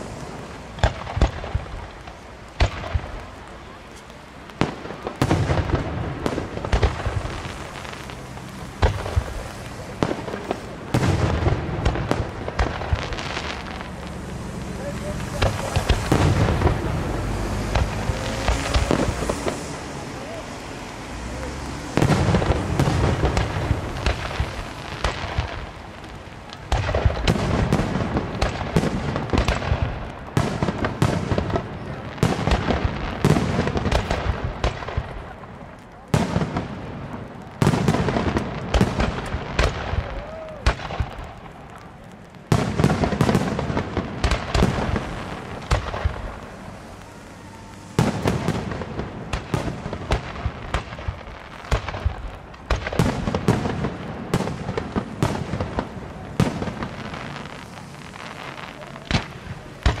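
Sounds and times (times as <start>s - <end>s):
firework shells bursting: 0.0s - 60.0s.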